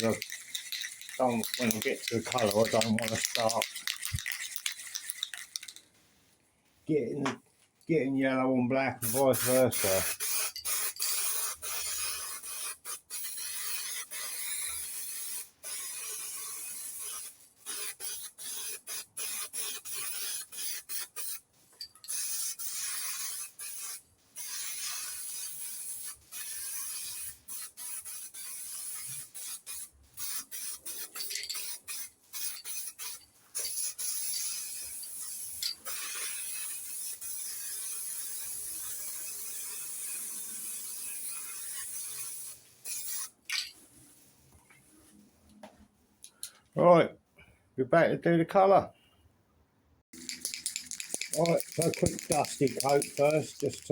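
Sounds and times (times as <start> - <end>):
aerosol spray bursts: 0.0 - 5.8, 9.0 - 21.4, 22.0 - 43.4, 50.2 - 53.9.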